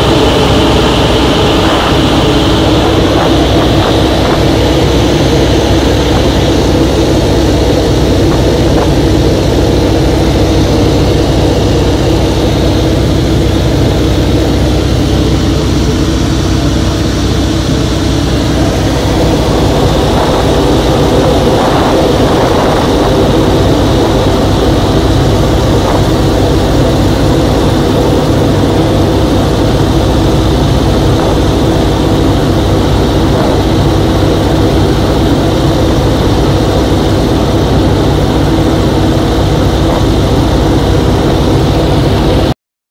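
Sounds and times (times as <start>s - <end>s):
propeller plane engine droning: 0.0s - 42.6s.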